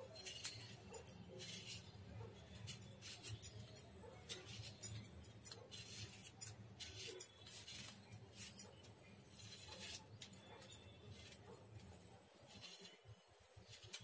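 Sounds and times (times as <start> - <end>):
peeler scraping potato skin: 0.0 - 14.0.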